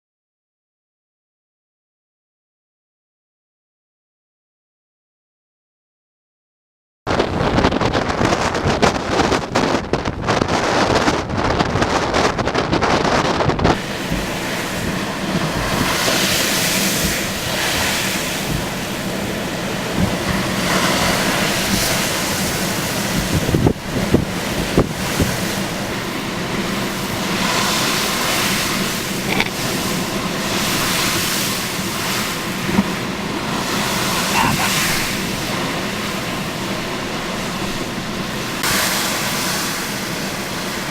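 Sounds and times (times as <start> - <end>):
waves breaking on shore: 7.1 - 40.9
wind buffeting microphone: 7.1 - 40.9.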